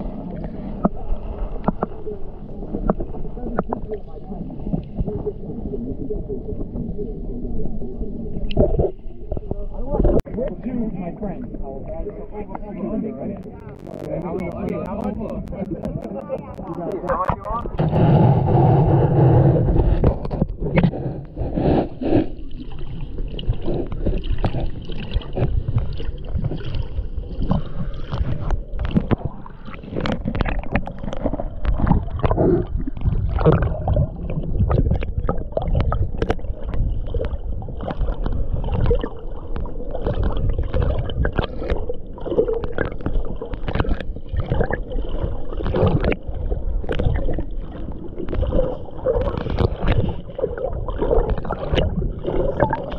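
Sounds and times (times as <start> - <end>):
small underwater clicks and crackles: 0.0 - 52.9
underwater rumble of moving water: 0.0 - 52.9.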